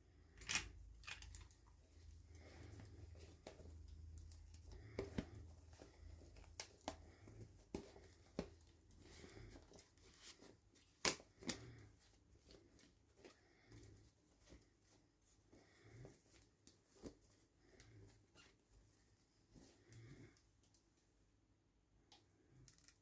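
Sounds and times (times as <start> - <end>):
soft rustling of packaging: 0.0 - 23.0.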